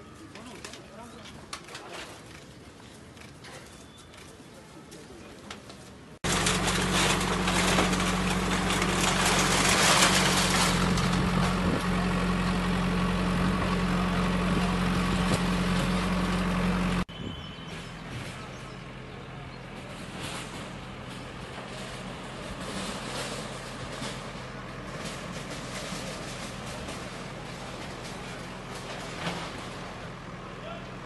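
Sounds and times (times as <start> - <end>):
loud outdoor noise: 0.0 - 31.0
low mechanical hum: 5.9 - 31.0.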